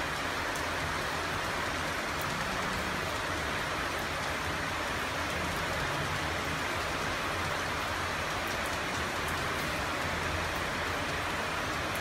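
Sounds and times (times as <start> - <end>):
torrential rain: 0.0 - 12.0.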